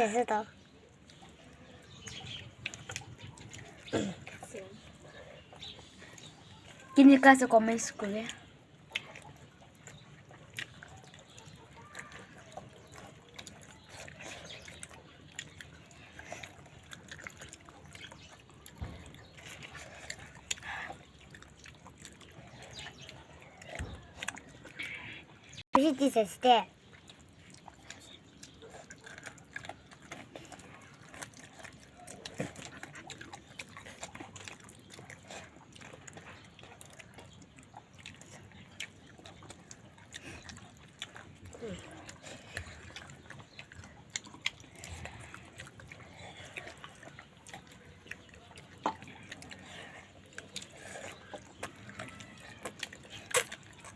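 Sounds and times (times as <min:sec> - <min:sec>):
wet chewing and mouth smacking: 0:00.0 - 0:53.9.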